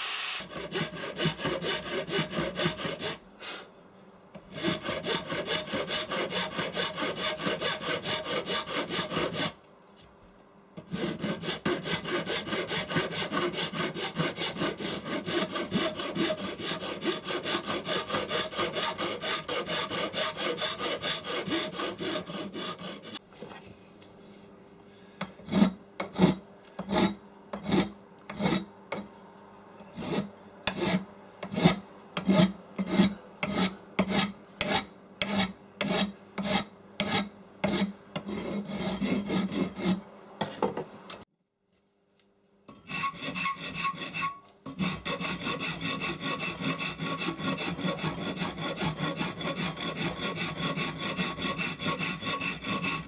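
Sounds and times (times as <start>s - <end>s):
file rasping on metal: 0.3s - 3.3s, 4.4s - 9.6s, 10.8s - 23.2s, 25.2s - 29.1s, 29.8s - 40.1s, 42.7s - 53.0s.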